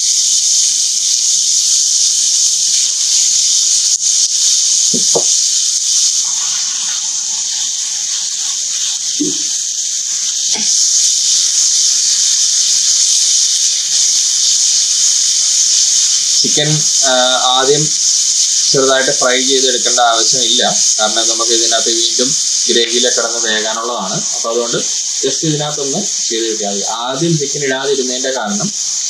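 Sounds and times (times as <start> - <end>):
food sizzling in a skillet: 0.0 - 29.0.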